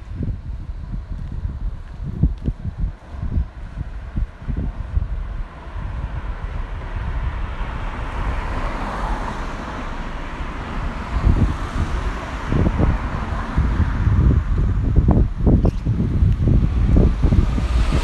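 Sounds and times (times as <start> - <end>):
wind buffeting microphone: 0.0 - 18.0
car passing: 3.1 - 18.0.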